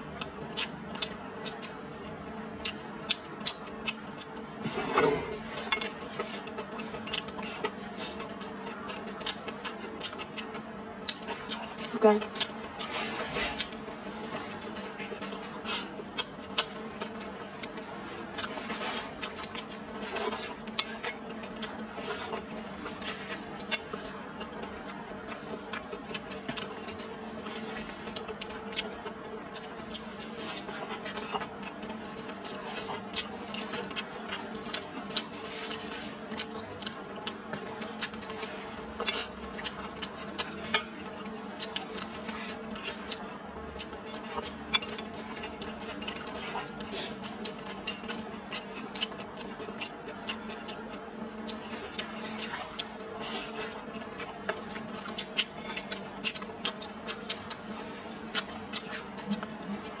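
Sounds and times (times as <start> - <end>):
faint steady hum: 0.0 - 60.0
chewing: 0.1 - 60.0.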